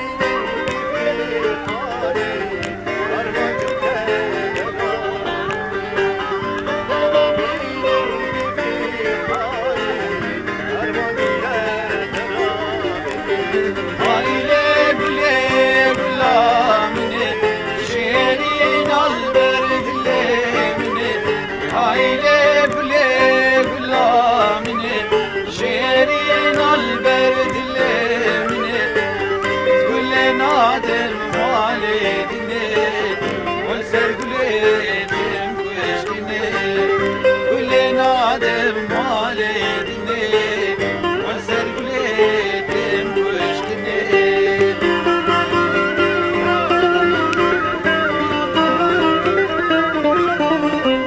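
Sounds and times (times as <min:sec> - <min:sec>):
lutes strummed: 0:00.0 - 0:51.0
person singing: 0:00.0 - 0:51.0
wind instrument melody: 0:00.0 - 0:51.0.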